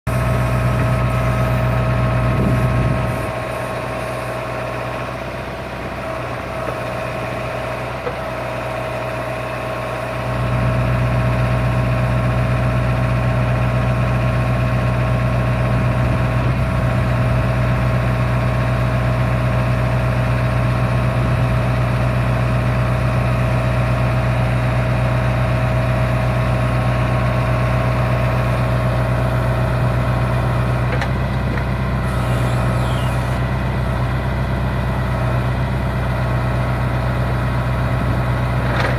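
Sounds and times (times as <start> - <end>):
tractor engine whining: 0.1 - 38.9.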